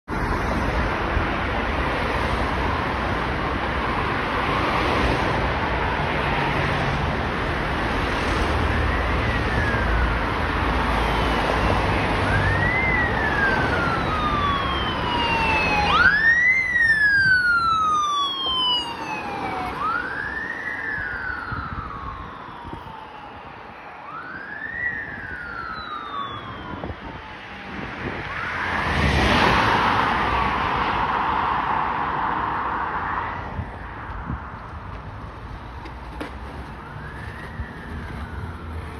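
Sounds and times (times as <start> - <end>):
road traffic: 0.0 - 38.9
emergency vehicle siren wailing: 3.8 - 38.9.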